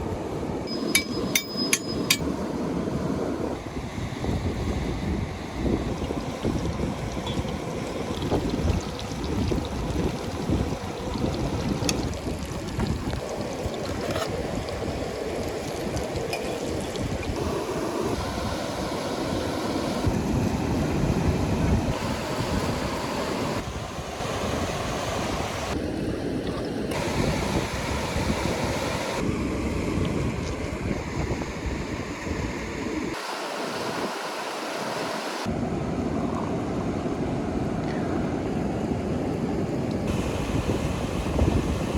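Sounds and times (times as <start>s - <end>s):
wind gusts on microphone: 2.1s - 33.2s, 35.4s - 41.9s.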